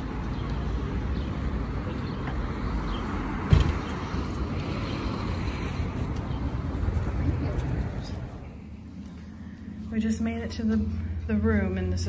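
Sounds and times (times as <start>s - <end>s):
cars passing rumble: 0.0s - 12.0s.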